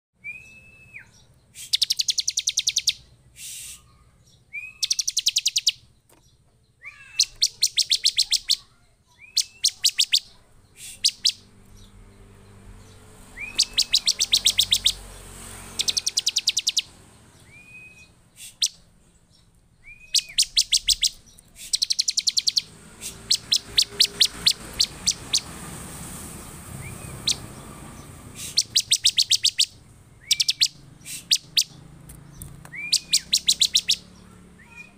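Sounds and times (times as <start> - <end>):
bird chirping rapidly: 0.3 - 34.9.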